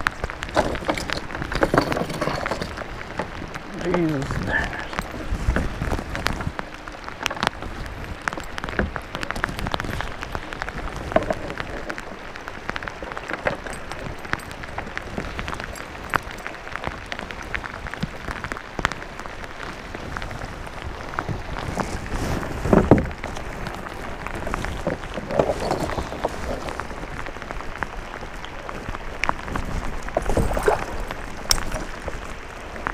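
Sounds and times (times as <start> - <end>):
heavy rain on water: 0.0 - 32.9.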